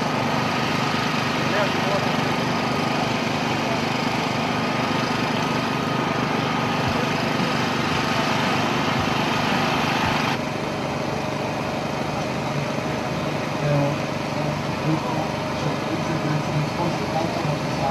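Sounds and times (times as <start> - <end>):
race car engines idling: 0.0 - 17.9.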